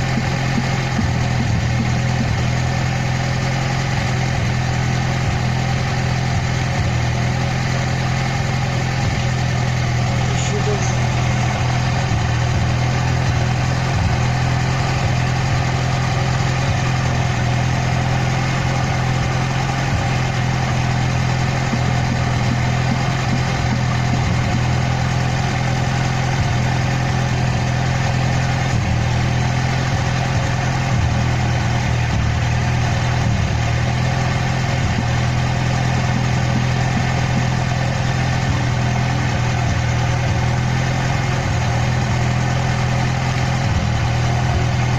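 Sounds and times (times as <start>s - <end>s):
car engine and road drone: 0.0s - 44.9s.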